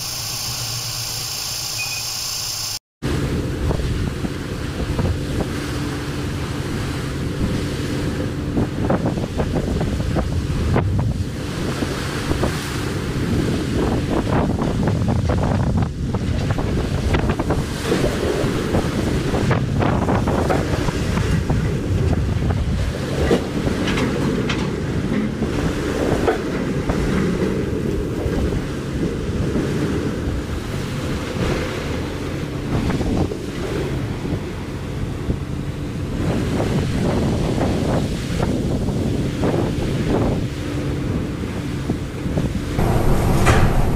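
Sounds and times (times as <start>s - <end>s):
waves breaking against ship hull: 3.0s - 43.9s
wind buffeting microphone: 3.0s - 43.9s.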